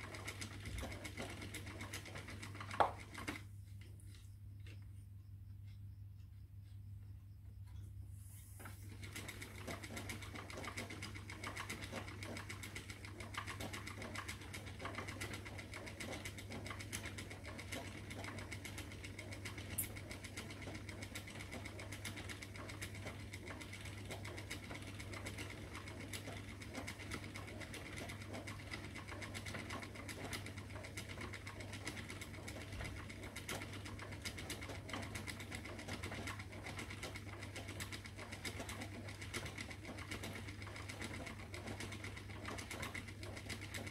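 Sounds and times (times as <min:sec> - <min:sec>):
spinning wheel whirring: 0:00.0 - 0:07.1, 0:08.6 - 0:43.9.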